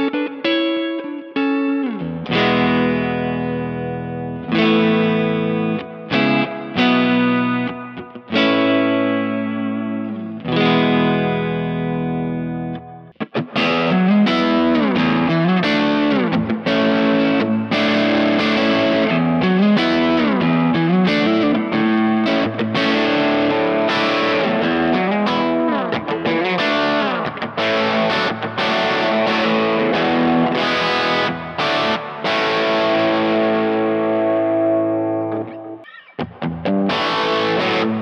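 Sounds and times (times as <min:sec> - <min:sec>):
distorted electric guitar: 0:00.0 - 0:38.0.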